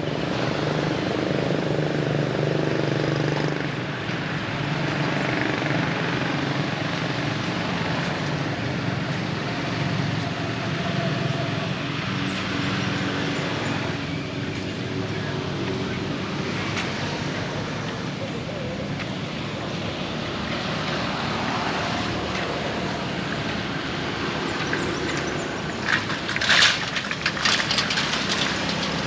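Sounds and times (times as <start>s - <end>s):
broad rushing noise: 0.0s - 29.0s
engine humming steadily: 0.0s - 29.0s.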